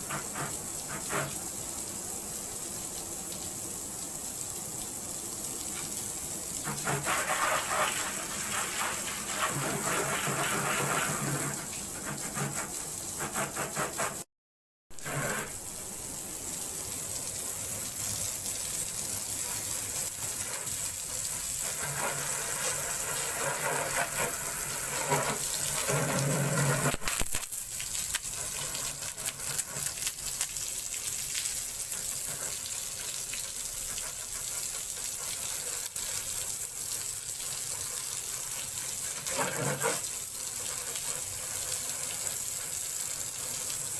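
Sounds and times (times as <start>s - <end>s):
high-pressure water spraying: 0.0s - 3.7s, 5.4s - 14.3s, 15.0s - 43.9s.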